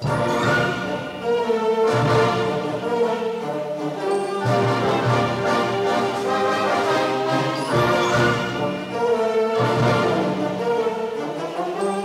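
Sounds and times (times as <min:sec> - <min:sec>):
concert wind band playing: 0:00.0 - 0:12.0.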